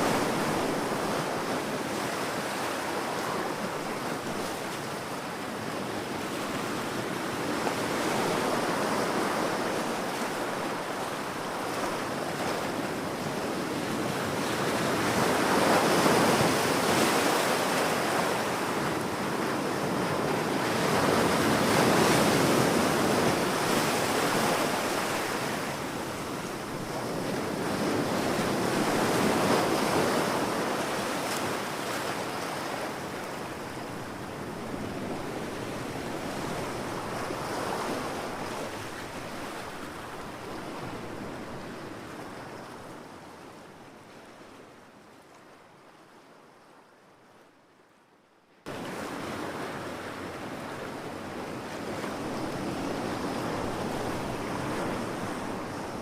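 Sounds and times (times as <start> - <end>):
ocean waves breaking on beach: 0.0 - 46.5, 48.7 - 56.0.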